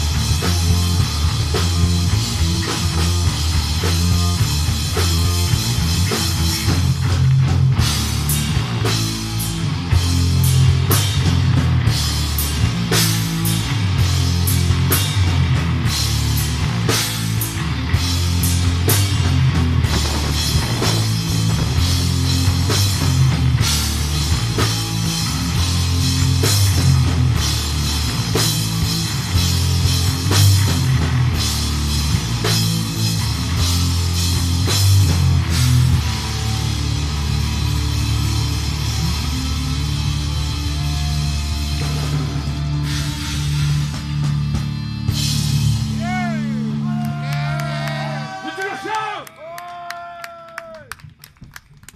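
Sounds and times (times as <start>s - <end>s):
drum kit: 0.0s - 48.8s
electric guitars: 0.0s - 49.0s
bass guitar: 0.0s - 51.9s.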